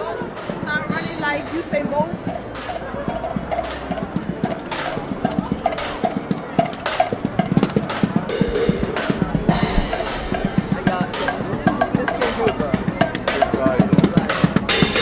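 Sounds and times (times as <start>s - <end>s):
drums playing fast beat: 0.0s - 15.0s.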